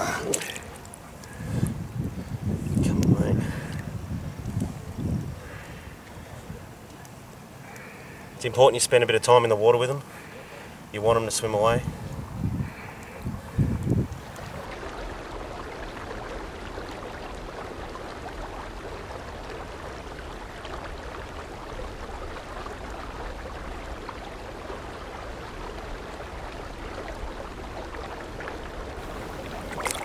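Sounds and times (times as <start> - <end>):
water sloshing and trickling: 0.0 - 8.0, 12.2 - 30.0.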